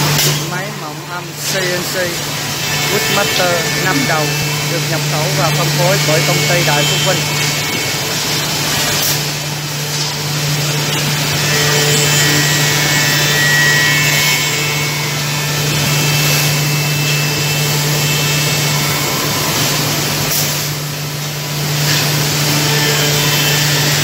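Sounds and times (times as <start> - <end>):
milling machine cutting wood: 0.0 - 24.0.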